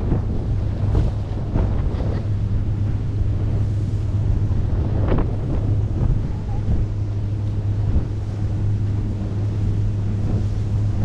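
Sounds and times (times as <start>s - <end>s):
rushing wake and spray: 0.0s - 11.0s
wind buffeting microphone: 0.0s - 11.0s.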